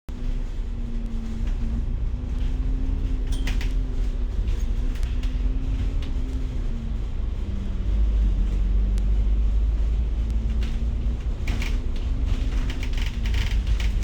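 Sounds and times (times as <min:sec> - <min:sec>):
bus engine and road rumble: 0:00.1 - 0:14.0.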